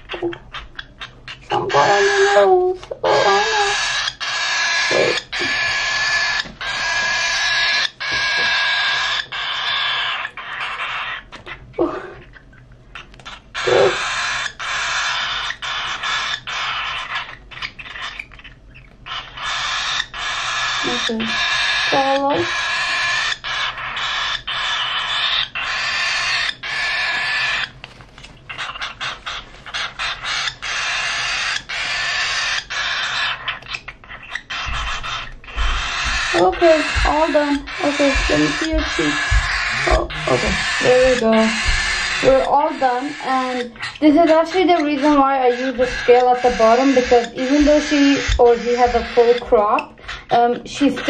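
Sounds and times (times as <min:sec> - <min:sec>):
cockatiel chick begging calls: 0:00.0 - 0:27.8, 0:28.5 - 0:51.0.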